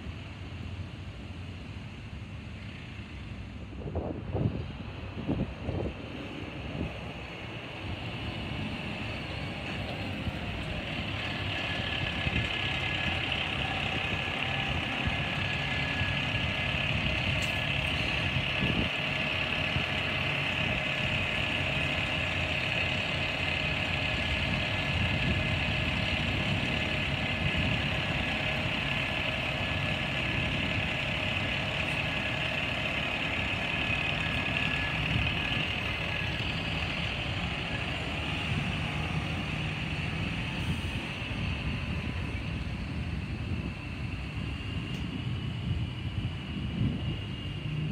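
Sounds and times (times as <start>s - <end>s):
garbage truck diesel engine: 0.0s - 47.9s
high-pitched whine: 2.9s - 47.9s.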